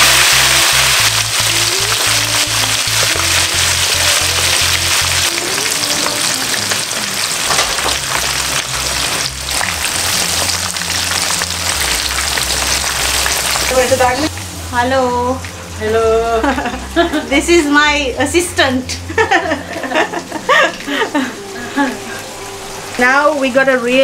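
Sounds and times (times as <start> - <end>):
background music with bass: 0.0 - 23.0
oil sizzling while deep-frying: 0.0 - 24.0.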